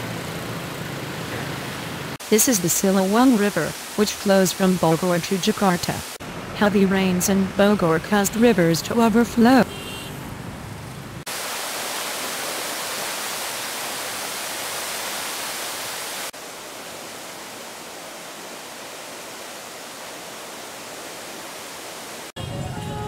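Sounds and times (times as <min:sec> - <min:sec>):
rushing floodwater: 0:01.1 - 0:09.6, 0:11.2 - 0:22.4.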